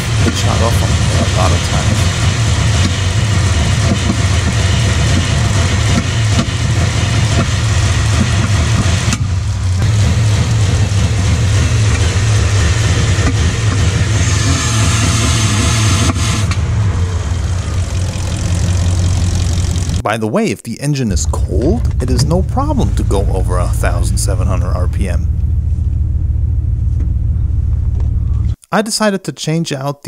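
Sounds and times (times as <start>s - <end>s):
engine running rough: 0.0s - 20.0s, 21.1s - 28.6s.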